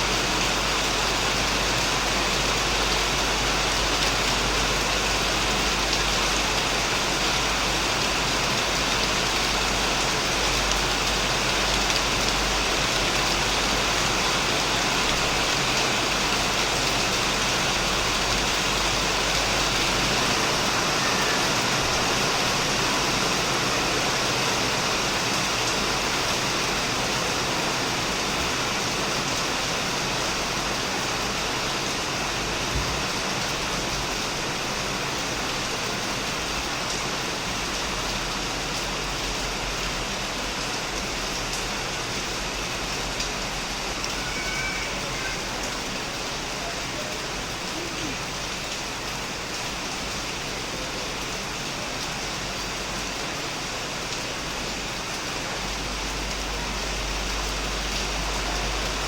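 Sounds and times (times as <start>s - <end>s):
heavy rain on a shed roof: 0.0s - 59.0s.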